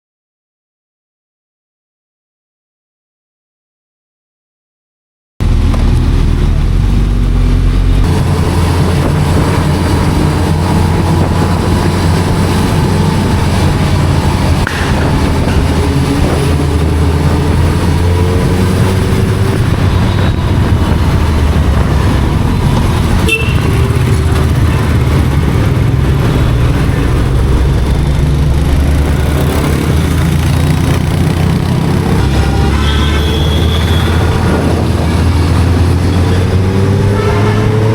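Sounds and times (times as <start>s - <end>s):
wind rushing: 5.4s - 32.8s, 33.4s - 37.9s
motorcycle engine drone: 5.4s - 37.9s.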